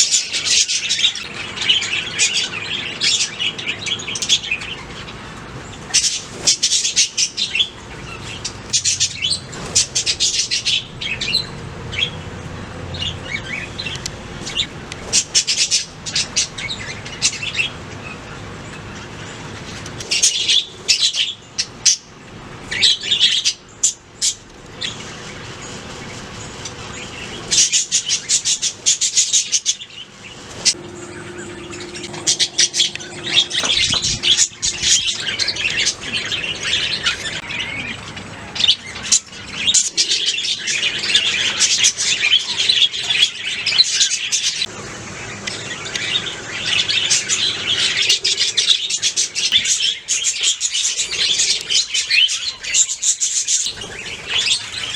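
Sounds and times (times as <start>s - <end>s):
budgerigars chirping and warbling: 0.0s - 12.2s, 22.7s - 54.9s.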